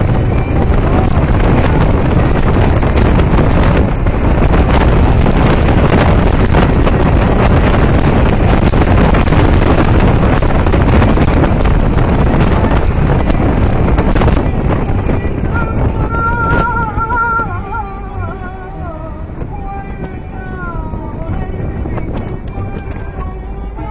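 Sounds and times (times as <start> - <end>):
car road noise: 0.0 - 23.9
wind buffeting microphone: 0.0 - 23.9.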